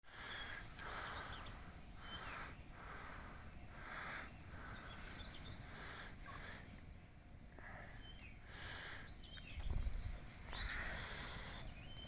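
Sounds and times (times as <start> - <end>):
faint small birds chirping: 0.0 - 12.0
soft pulsing hiss: 0.1 - 12.0.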